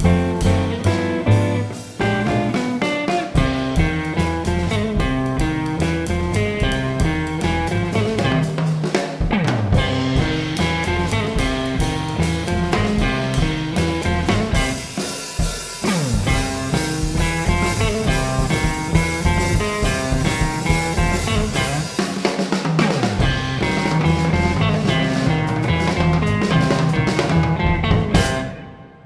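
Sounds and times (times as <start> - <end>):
upright double bass: 0.0 - 8.7, 9.4 - 14.9, 15.9 - 22.0, 23.2 - 28.5
drum kit: 0.0 - 29.0
electric guitar: 0.0 - 29.0.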